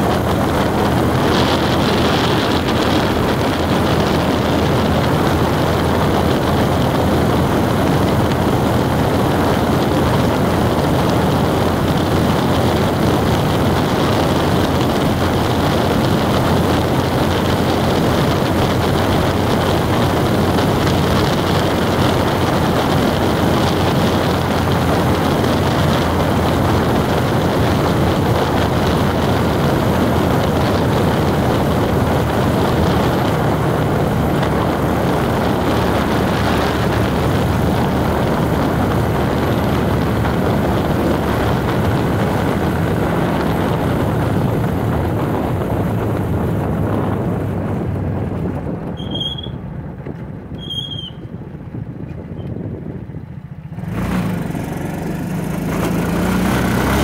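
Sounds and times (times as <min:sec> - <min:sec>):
engine and tyre noise: 0:00.0 - 0:57.0.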